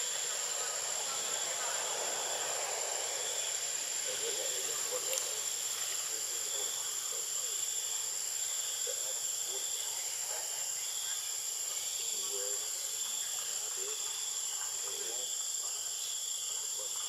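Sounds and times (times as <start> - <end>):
insects droning: 0.0 - 17.0
lower insect drone: 0.0 - 17.0.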